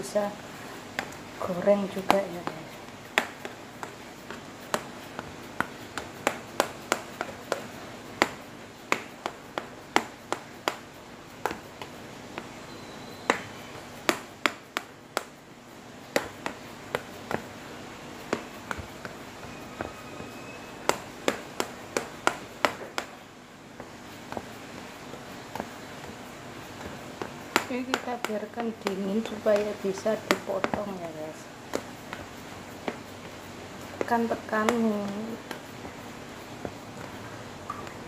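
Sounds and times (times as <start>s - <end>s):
hand patting dough: 0.0s - 38.0s.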